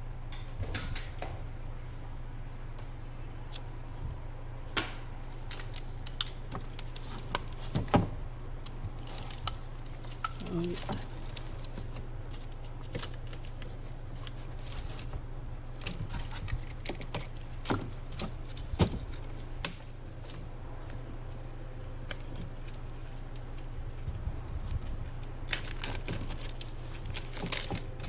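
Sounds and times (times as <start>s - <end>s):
steady low hum: 0.0s - 28.0s
small parts and packaging handled: 5.3s - 28.0s.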